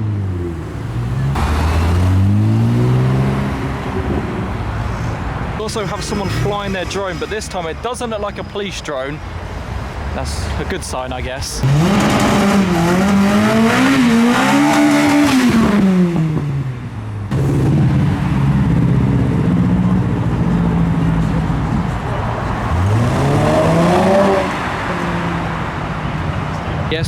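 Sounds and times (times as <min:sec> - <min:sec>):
car accelerating: 0:00.0 - 0:08.6, 0:11.6 - 0:26.9
car engines revving: 0:00.0 - 0:27.0.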